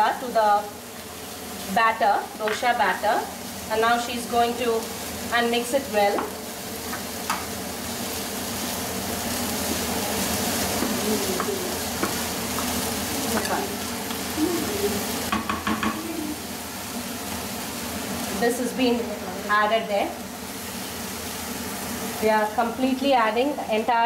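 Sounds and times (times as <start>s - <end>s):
food sizzling in oil in a frying pan: 0.0s - 24.0s.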